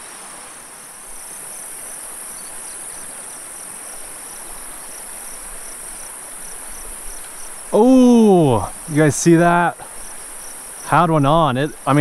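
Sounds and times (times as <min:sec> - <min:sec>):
insect chirping in pulses: 0:00.0 - 0:12.0
rippling stream: 0:00.0 - 0:12.0.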